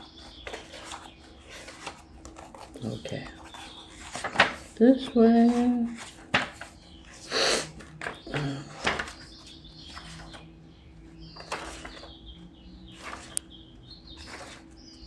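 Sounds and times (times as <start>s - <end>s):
paper pages rustling: 0.0s - 10.4s, 11.4s - 12.2s, 12.9s - 13.5s, 14.2s - 14.9s.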